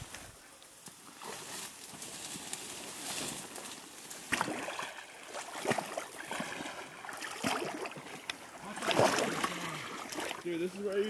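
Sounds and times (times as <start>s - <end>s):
footsteps splashing through water: 0.9s - 11.0s.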